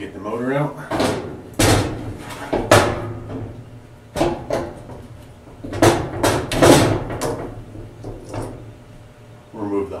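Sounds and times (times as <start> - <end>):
motor clunking on sheet metal: 0.8 - 8.8.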